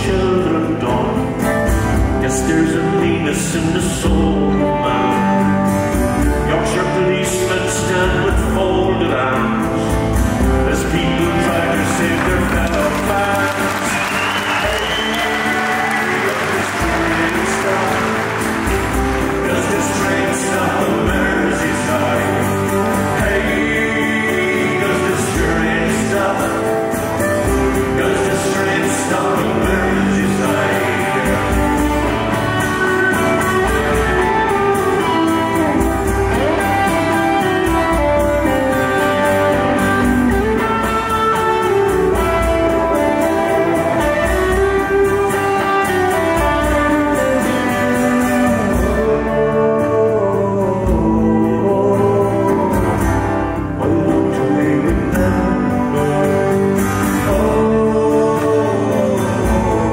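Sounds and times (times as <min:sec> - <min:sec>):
acoustic guitar: 0:00.0 - 0:59.9
person singing: 0:00.0 - 0:59.9.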